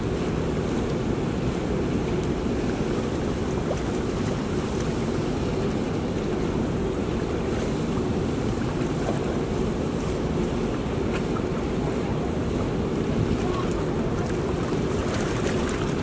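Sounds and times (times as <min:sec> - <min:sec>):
turbulent water rushing: 0:00.0 - 0:16.0.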